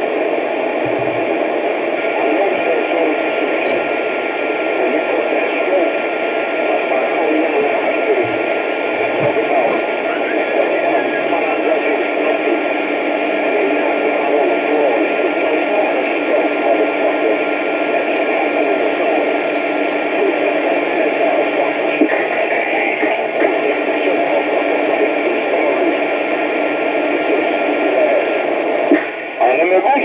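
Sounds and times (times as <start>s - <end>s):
garbled radio voices: 0.0s - 30.0s
radio static hiss: 0.0s - 30.0s.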